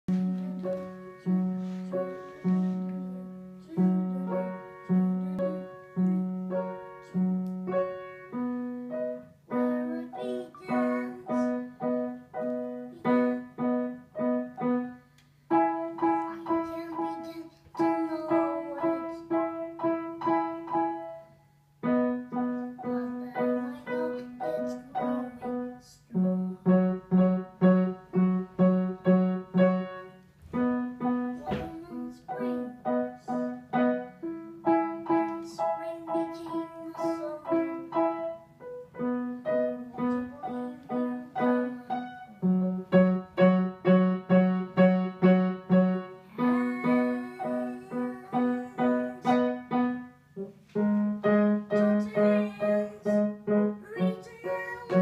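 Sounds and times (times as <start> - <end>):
grand piano chords: 0.0 - 55.0.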